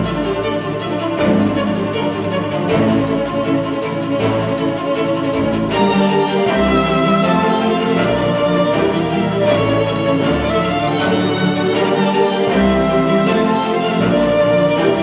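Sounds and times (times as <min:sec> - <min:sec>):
cinematic orchestral string music: 0:00.0 - 0:15.0.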